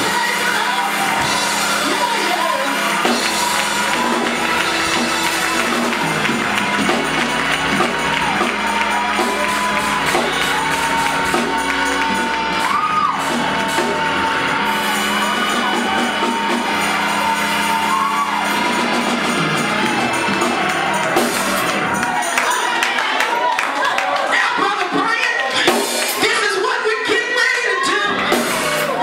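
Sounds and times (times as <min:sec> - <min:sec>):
gospel organ and drums: 0:00.0 - 0:22.8, 0:24.0 - 0:29.0
congregation shouting and singing: 0:00.0 - 0:29.0.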